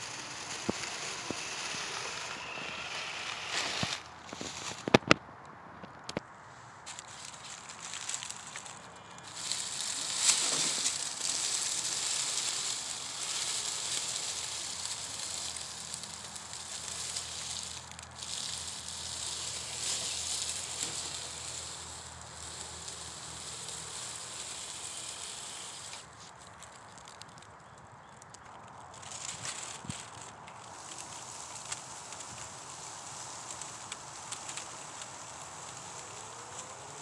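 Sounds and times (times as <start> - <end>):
dry leaves crackling under tyres: 0.0 - 37.0.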